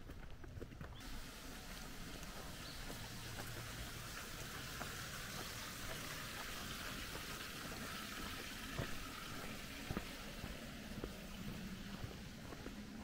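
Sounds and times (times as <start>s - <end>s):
water running: 1.0s - 13.0s.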